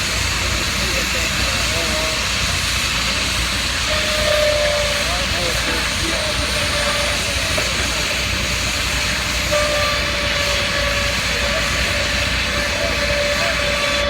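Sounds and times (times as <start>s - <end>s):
machinery rumble: 0.0s - 14.0s.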